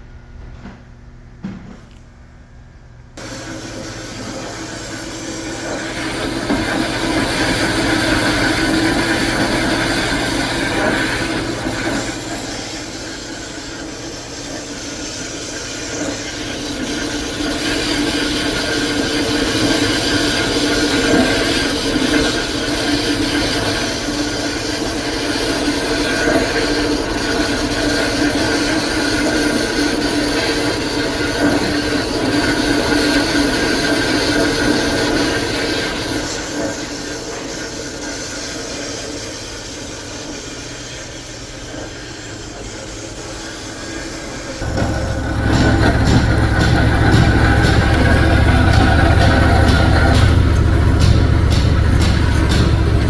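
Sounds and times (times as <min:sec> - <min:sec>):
band saw whirring hum: 0:03.2 - 0:37.8, 0:40.5 - 0:53.0.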